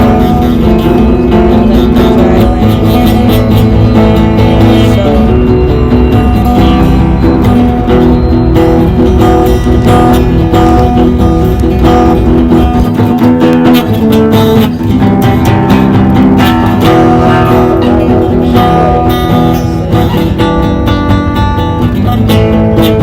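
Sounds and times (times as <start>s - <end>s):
bass line: 0.0s - 23.0s
plucked and strummed guitar: 0.0s - 23.0s.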